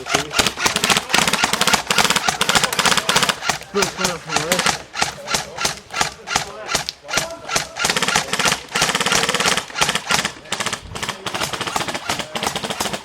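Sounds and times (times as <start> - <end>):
airsoft guns firing: 0.0 - 13.0.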